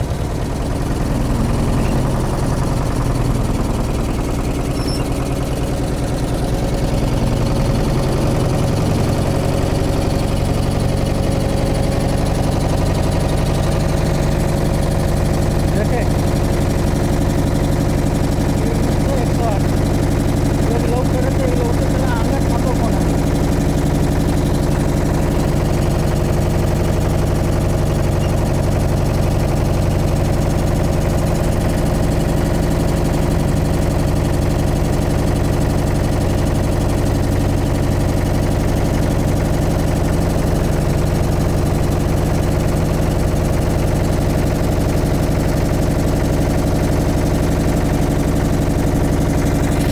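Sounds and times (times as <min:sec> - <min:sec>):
motorboat engine running: 0:00.0 - 0:49.9.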